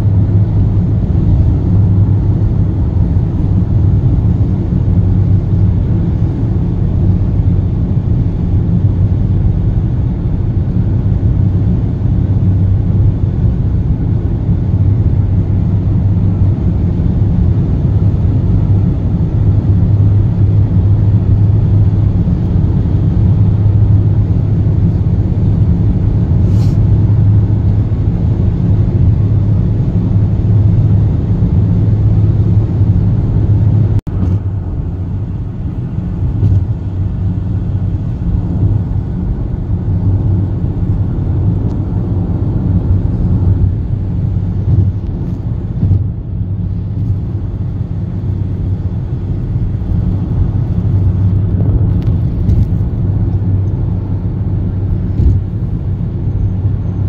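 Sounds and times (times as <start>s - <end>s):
car engine droning: 0.0s - 57.0s
tyre road noise: 0.0s - 57.0s.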